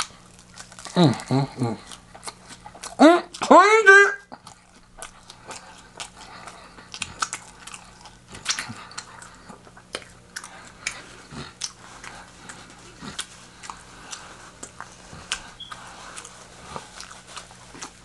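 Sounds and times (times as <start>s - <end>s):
crunchy chewing: 0.0s - 3.5s, 4.2s - 18.0s.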